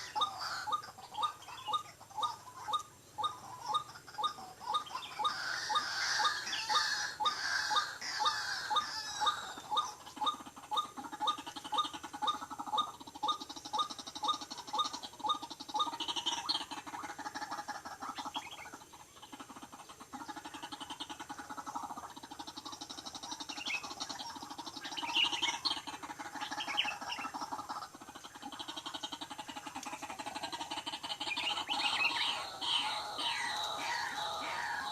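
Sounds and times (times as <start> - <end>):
bird chirps and trills: 0.0 - 34.9
waterhen calling: 0.0 - 34.9.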